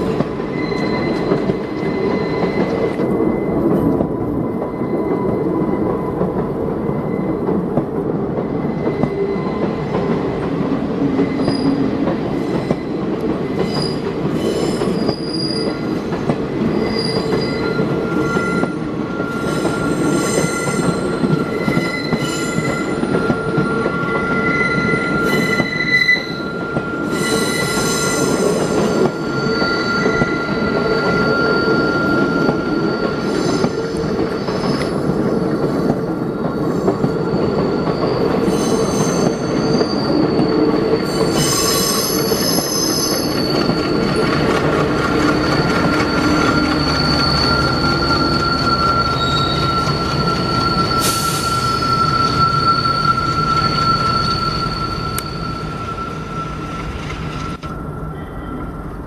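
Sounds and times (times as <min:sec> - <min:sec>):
train wheels rumbling on rail: 0:00.0 - 0:59.0
high-pitched wheel squeal: 0:00.4 - 0:03.6, 0:11.2 - 0:15.9, 0:16.7 - 0:58.8.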